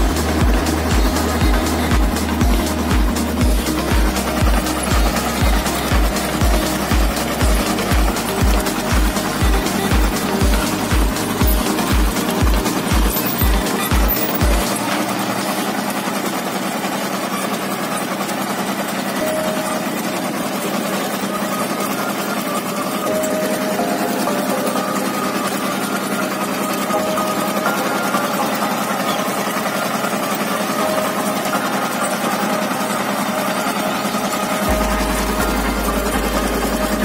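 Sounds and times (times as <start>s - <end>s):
tractor diesel engine clattering: 0.0s - 37.0s.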